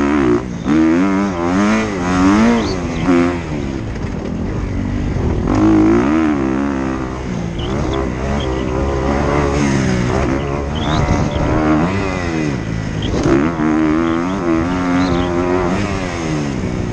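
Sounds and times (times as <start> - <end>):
dirt bike engine revving: 0.0 - 16.9.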